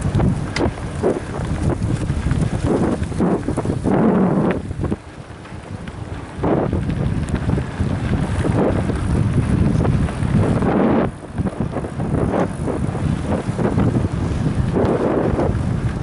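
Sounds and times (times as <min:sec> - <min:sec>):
bike rolling on dirt track: 0:00.0 - 0:16.0
wind buffeting microphone: 0:00.0 - 0:16.0.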